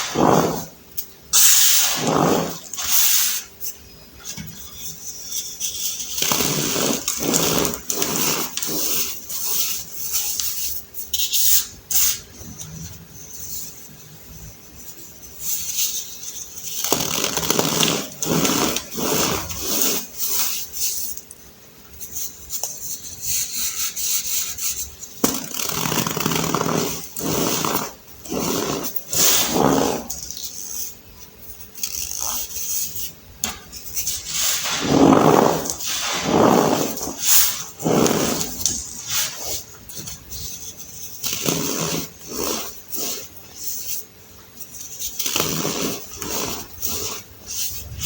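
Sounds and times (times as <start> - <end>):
baking soda crunching and squeaking: 4.6 - 21.2, 22.0 - 48.0.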